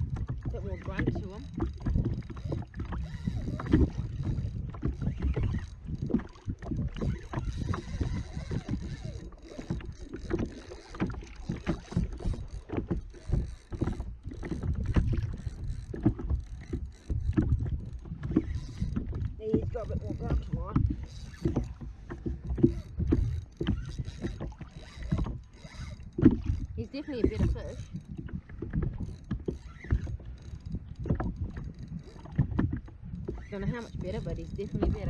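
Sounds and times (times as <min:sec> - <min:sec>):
knocks and clicks of kayak tackle: 0:00.0 - 0:35.0
water splashing: 0:00.0 - 0:35.0.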